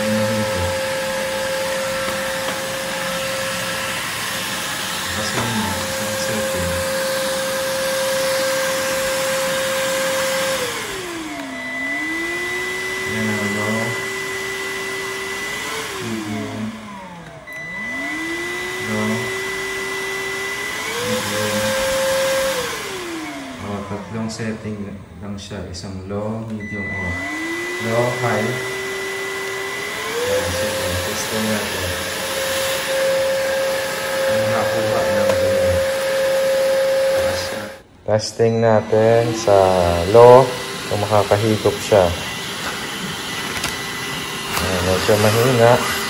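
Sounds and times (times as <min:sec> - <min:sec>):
vacuum motor whining: 0:00.0 - 0:46.0.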